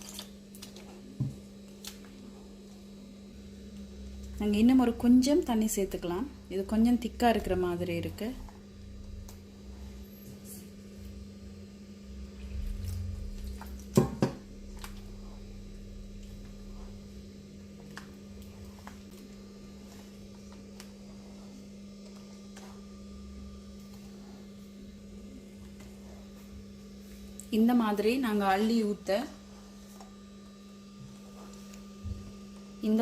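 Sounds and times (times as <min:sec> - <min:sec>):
batter stirred in a bowl: 0:00.0 - 0:33.0
low hum: 0:00.1 - 0:33.0.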